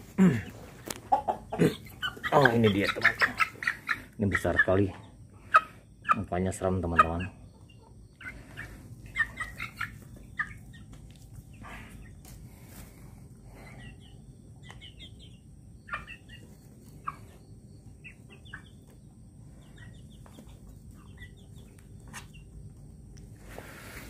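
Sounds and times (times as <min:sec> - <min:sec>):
chicks chirping: 0:00.3 - 0:24.0.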